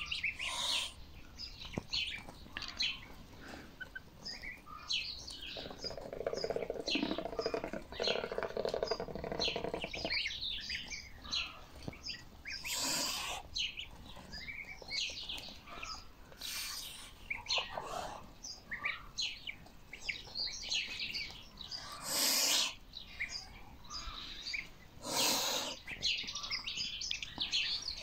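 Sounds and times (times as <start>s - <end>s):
goslings peeping: 0.0s - 28.0s.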